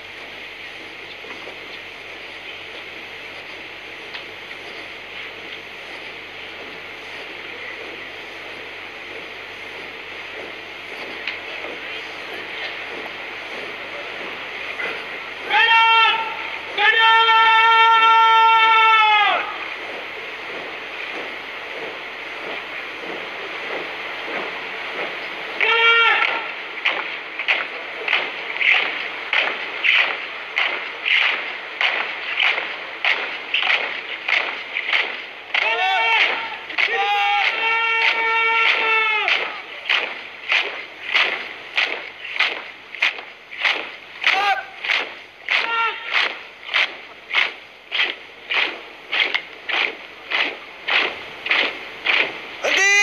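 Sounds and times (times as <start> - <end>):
troop marching in step: 0.0 - 53.0.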